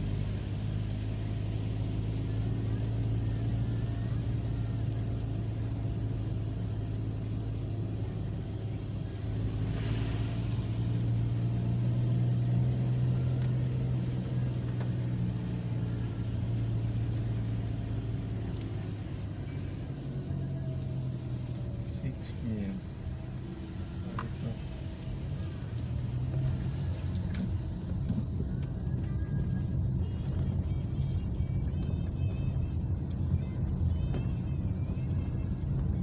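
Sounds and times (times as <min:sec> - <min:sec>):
car engine humming while driving: 0:00.0 - 0:36.0.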